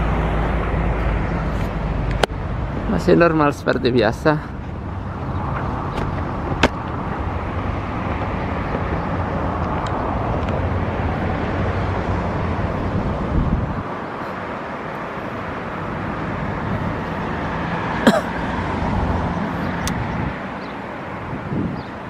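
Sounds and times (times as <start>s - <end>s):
road traffic rumbling hiss: 0.0s - 22.0s.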